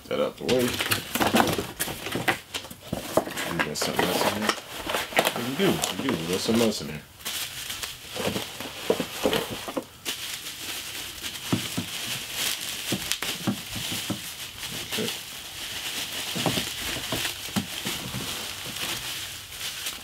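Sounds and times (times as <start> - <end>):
bubble wrap crinkling: 0.4 - 20.0.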